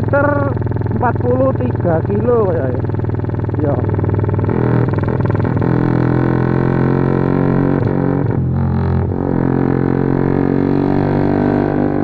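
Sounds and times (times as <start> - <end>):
motorcycle exhaust droning: 0.0 - 12.0.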